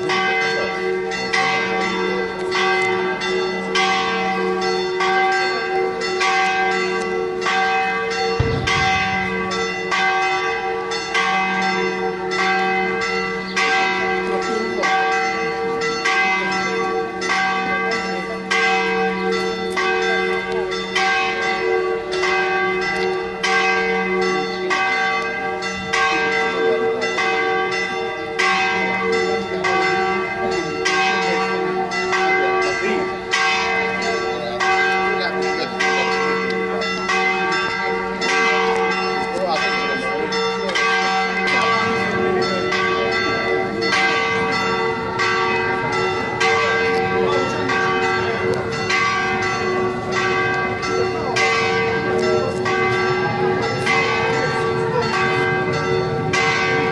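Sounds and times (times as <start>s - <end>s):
church bells ringing: 0.0s - 56.9s.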